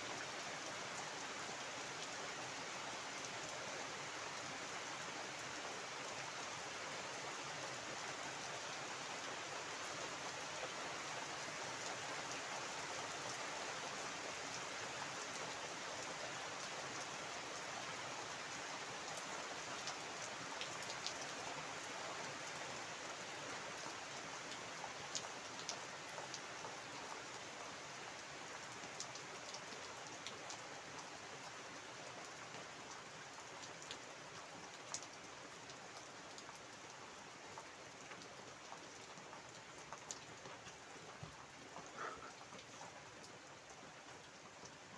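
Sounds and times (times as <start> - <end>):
rain falling on water and plants: 0.0 - 44.9.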